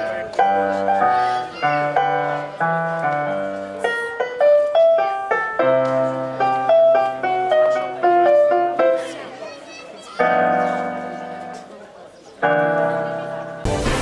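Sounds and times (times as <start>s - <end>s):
digital piano melody: 0.0s - 14.0s.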